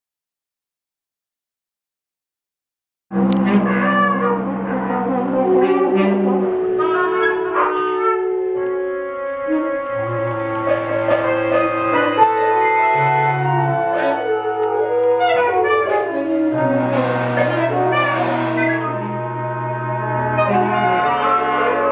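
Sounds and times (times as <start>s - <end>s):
horns holding long notes: 3.1s - 21.9s
keyboard: 3.1s - 21.9s.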